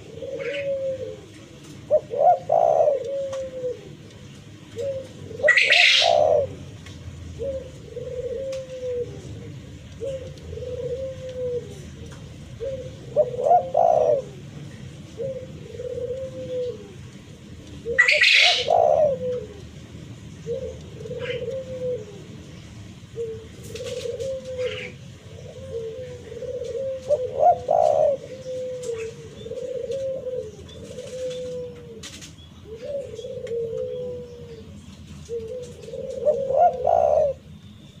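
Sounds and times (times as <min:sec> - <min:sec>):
dove cooing: 0:00.0 - 0:38.0.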